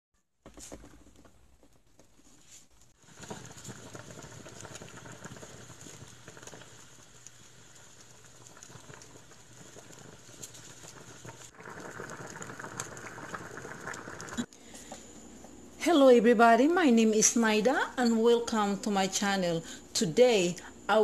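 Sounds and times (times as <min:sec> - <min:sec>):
broth boiling: 0:00.4 - 0:21.0.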